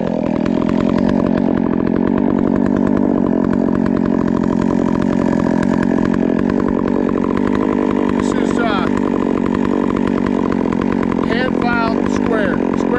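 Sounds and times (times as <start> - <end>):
chainsaw cutting wood: 0.0 - 12.9.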